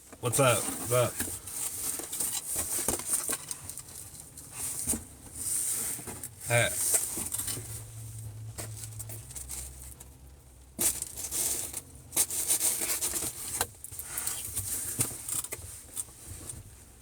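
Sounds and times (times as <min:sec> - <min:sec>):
rustling and crinkling handling: 0:00.0 - 0:17.0.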